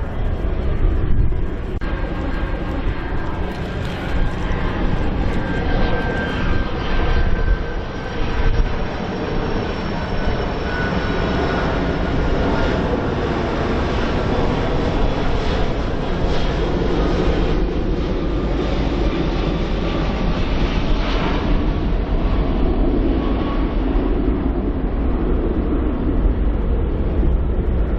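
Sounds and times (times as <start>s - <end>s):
faint high engine whine: 0.0s - 27.9s
jet engines rumbling: 0.0s - 27.9s.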